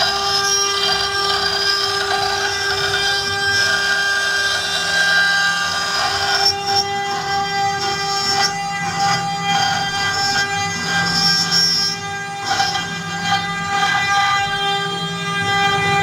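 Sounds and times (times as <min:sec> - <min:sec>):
cutter rasping wood: 0:00.0 - 0:16.0
router spindle whine: 0:00.0 - 0:16.0.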